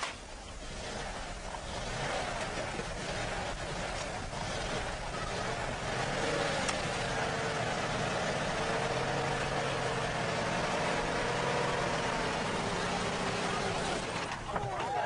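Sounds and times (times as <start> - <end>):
truck engine running: 0.2 - 15.0.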